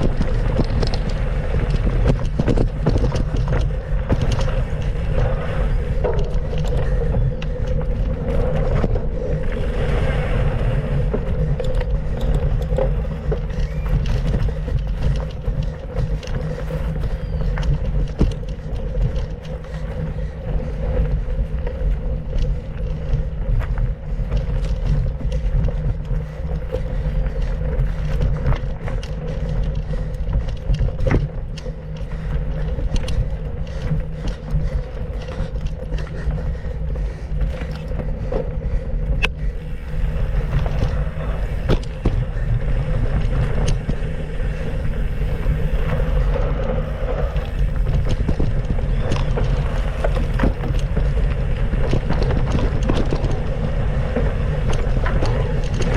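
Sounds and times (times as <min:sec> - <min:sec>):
bike rattles and knocks: 0:00.0 - 0:55.9
bike rumbling on dirt trail: 0:00.0 - 0:55.9.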